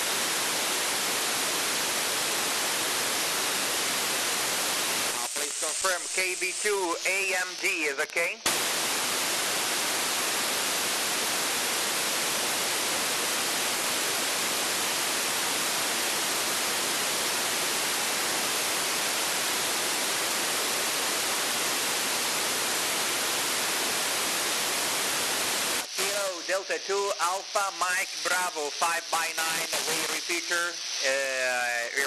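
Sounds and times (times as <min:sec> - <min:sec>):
radio receiver hiss: 0:00.0 - 0:32.0.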